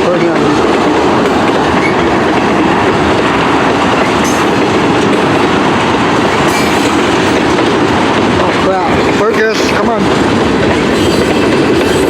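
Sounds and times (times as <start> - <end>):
freight train wheels clattering on rails: 0.0 - 12.0.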